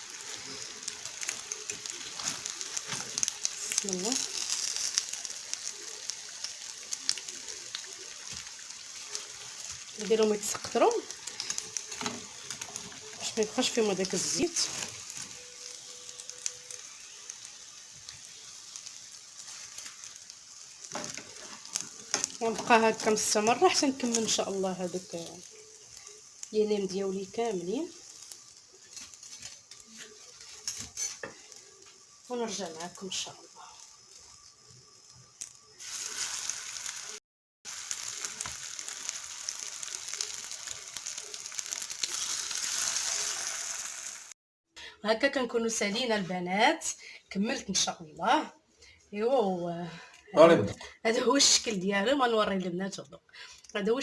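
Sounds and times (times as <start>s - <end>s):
spring rolls deep-frying in oil: 0.0s - 54.0s.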